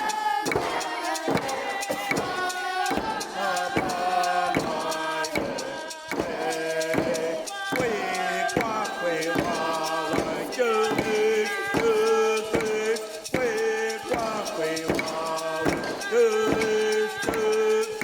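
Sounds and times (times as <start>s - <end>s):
group of voices chanting: 0.0s - 18.0s
steady struck beat: 0.0s - 18.0s.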